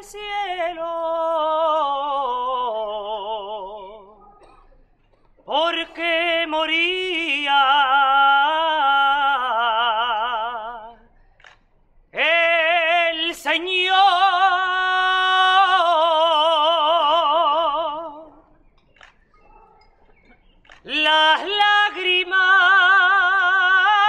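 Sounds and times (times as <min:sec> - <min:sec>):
person singing with vibrato: 0:00.0 - 0:04.6, 0:05.4 - 0:11.2, 0:12.1 - 0:18.6, 0:20.8 - 0:24.0.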